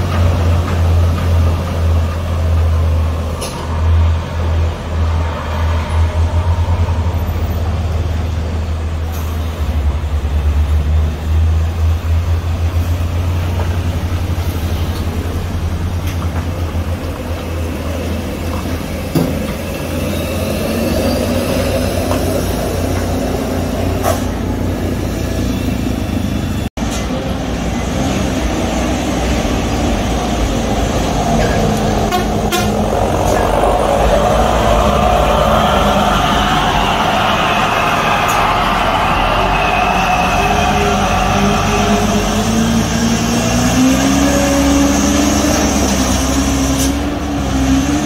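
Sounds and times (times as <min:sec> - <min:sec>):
truck engine rumbling: 0:00.0 - 0:48.0.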